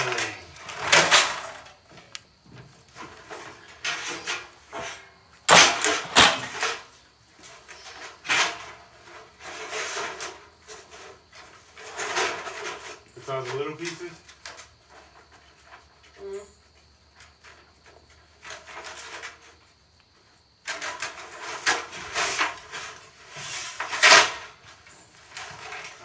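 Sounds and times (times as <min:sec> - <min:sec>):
boards scraping and knocking: 0:00.0 - 0:19.8, 0:20.6 - 0:26.0.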